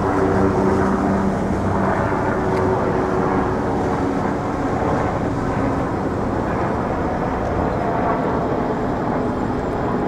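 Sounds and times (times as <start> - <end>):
distant engines rumbling: 0.0 - 10.0.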